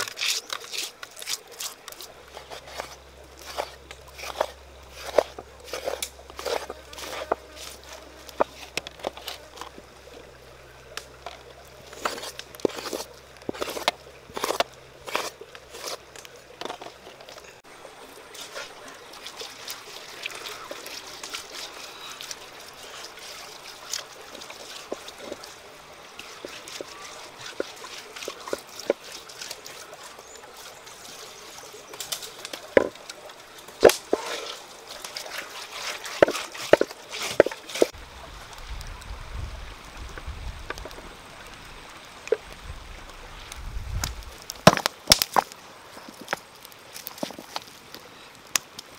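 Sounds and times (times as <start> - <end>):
faint steady hiss: 0.0 - 48.9.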